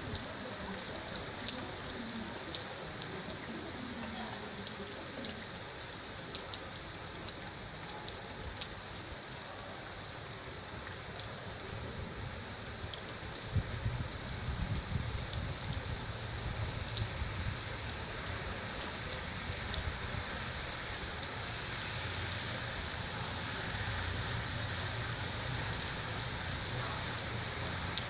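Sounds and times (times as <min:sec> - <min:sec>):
raindrops ticking on a surface: 0:00.0 - 0:28.0
steady rain: 0:00.0 - 0:28.0.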